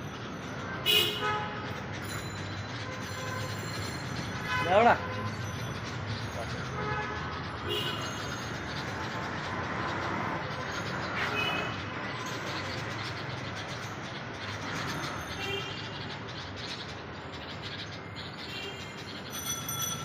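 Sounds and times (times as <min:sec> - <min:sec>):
city traffic hum: 0:00.0 - 0:20.0.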